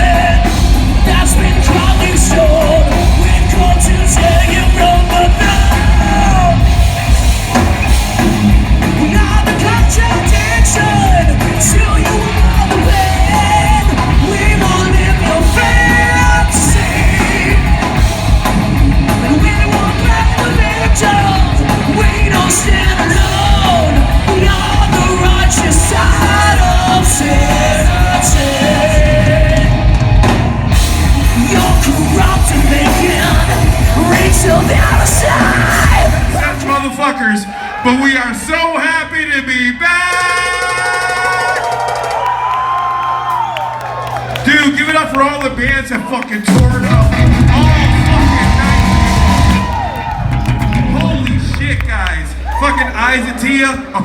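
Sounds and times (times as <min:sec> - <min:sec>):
heavy metal band playing live: 0:00.0 - 0:38.2, 0:39.9 - 0:42.6, 0:45.6 - 0:54.0
singer singing and yelling: 0:00.0 - 0:54.0.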